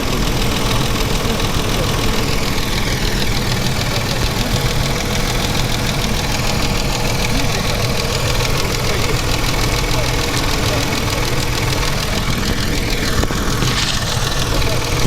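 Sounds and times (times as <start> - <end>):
car engine idling: 0.0 - 15.0
regular engine knock: 0.0 - 15.0.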